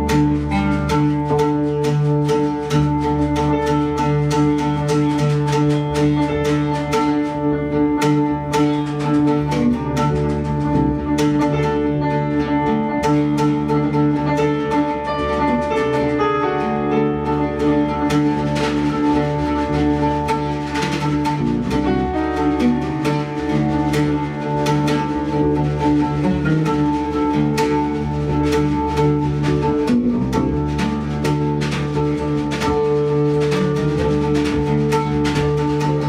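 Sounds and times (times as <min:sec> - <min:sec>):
oud plucked notes: 0:00.0 - 0:36.0.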